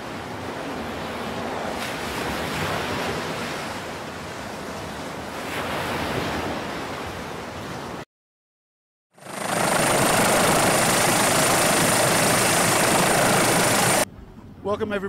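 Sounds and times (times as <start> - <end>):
open sea rushing: 0.0 - 8.0, 9.2 - 14.1
wind: 0.0 - 8.1, 9.1 - 15.0.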